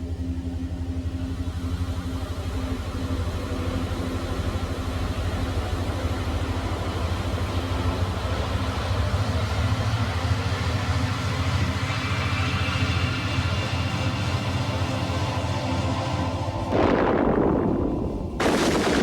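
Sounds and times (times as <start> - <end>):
pulsing low mechanical drone: 0.0 - 19.0.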